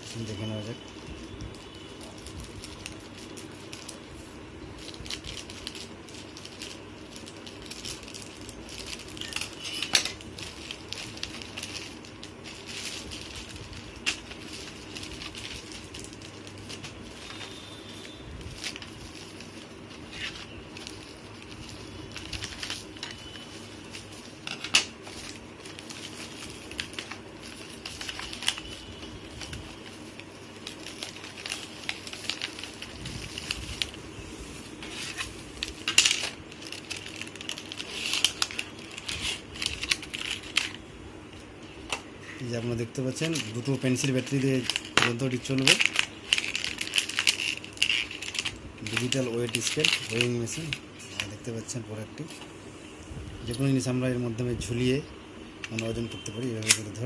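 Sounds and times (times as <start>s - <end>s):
plastic packaging crinkling: 0.0s - 40.9s, 41.7s - 52.4s, 55.6s - 57.0s.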